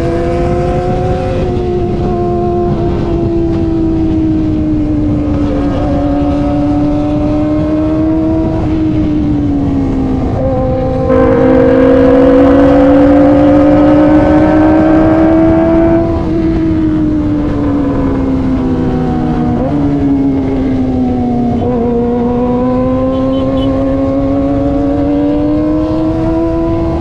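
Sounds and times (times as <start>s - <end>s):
motorcycle engine at high revs: 0.0s - 27.0s
wind and road rumble: 0.0s - 27.0s.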